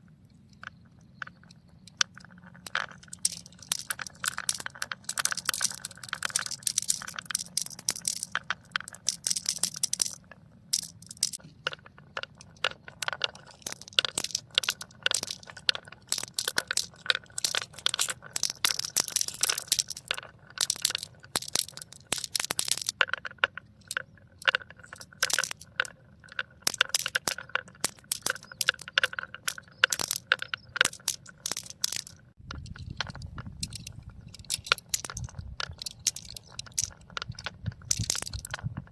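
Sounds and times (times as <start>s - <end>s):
marbles clattering down a track: 1.3s - 38.9s.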